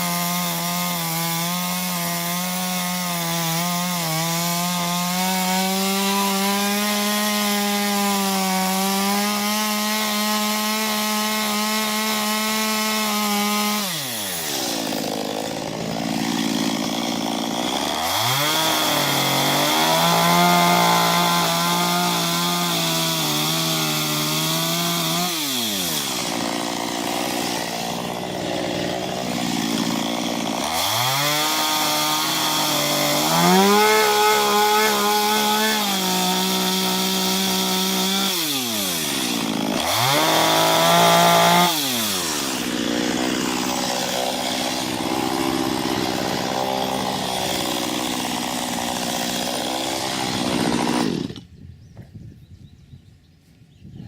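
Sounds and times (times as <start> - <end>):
chainsaw cutting wood: 0.0 - 51.6.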